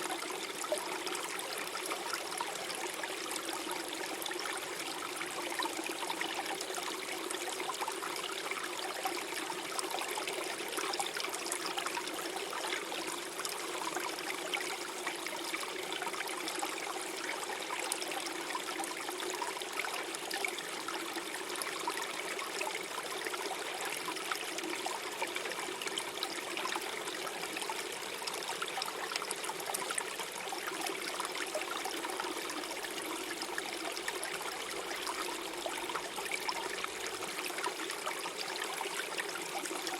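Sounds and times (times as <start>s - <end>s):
stream gurgling over stones: 0.0s - 39.9s.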